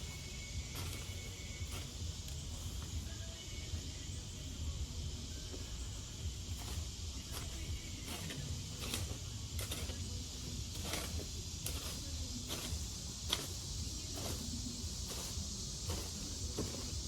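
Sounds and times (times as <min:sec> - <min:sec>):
garden tiller running: 0:00.0 - 0:04.0, 0:05.6 - 0:17.0
tines knocking on dirt: 0:00.0 - 0:04.6, 0:05.4 - 0:17.0.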